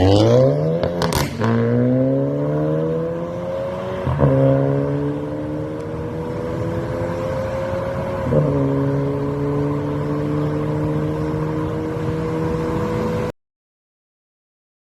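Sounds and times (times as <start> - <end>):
car engine accelerating: 0.0 - 13.3.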